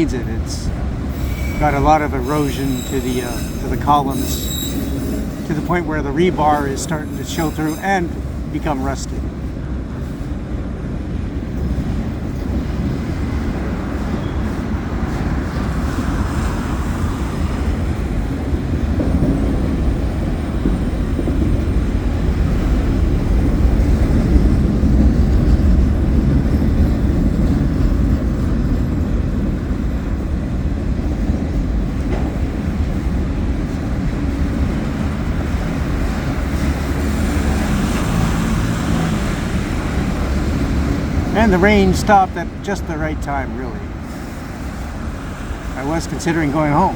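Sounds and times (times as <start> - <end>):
train passing: 0.0 - 46.9.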